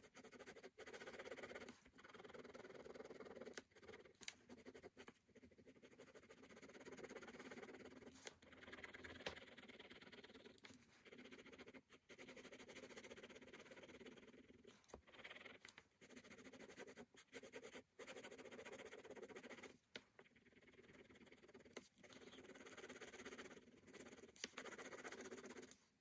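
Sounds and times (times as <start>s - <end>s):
pen scratching on paper: 0.0s - 25.9s.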